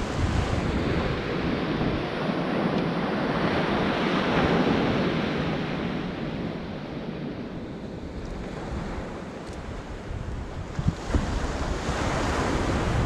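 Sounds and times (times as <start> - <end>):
sea surf washing on beach: 0.0 - 13.0
wind rumbling on microphone: 0.0 - 13.0.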